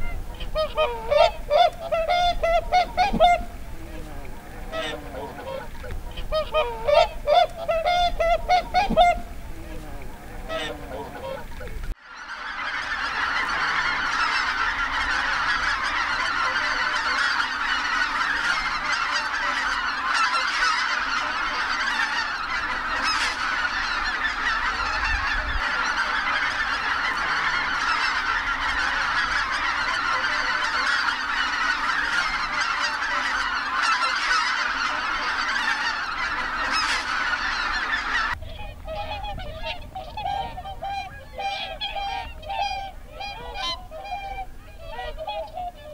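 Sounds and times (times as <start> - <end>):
swans honking: 0.0 - 45.9.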